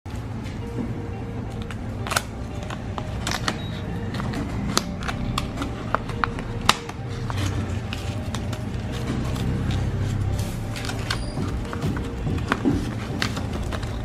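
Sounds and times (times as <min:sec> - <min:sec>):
background music: 0:00.1 - 0:14.0.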